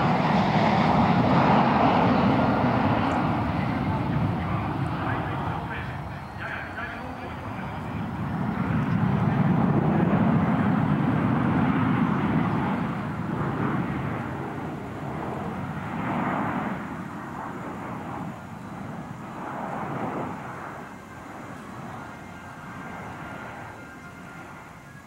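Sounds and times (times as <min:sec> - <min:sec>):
jet aircraft rumble overhead: 0:00.0 - 0:25.0.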